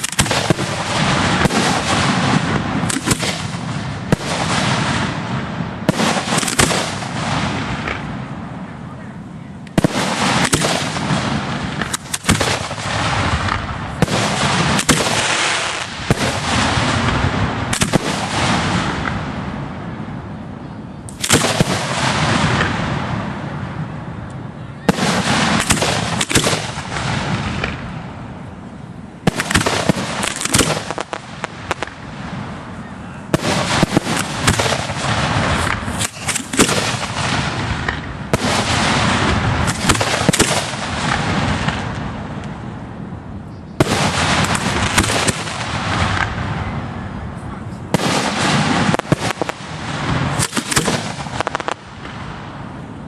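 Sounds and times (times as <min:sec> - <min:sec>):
fireworks bangs: 0:00.0 - 0:53.0
fireworks crackling and hissing: 0:00.0 - 0:53.0.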